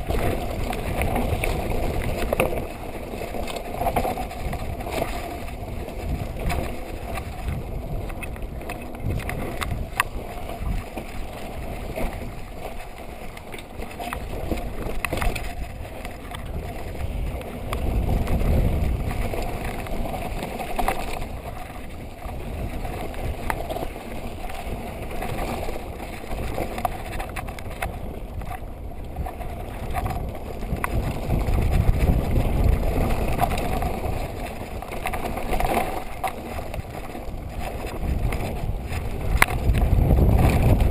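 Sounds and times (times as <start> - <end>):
bike knocking and rattling: 0.0 - 40.9
bike tyre rumble: 0.0 - 40.9.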